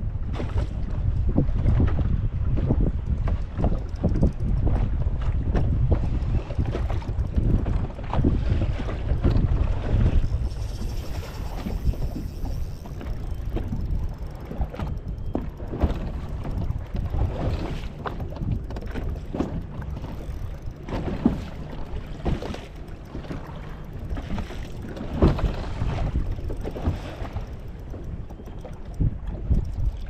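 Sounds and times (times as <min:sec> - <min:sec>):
wind rumbling on microphone: 0:00.0 - 0:30.0
waves splashing against hull: 0:00.1 - 0:30.0.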